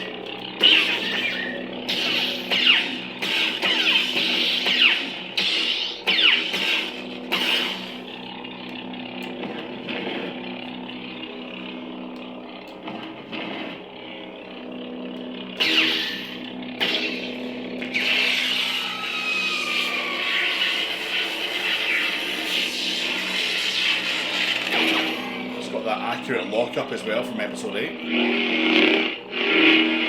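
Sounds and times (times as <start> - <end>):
lightsaber clashes: 0.0 - 30.0
lightsaber hum: 0.0 - 30.0.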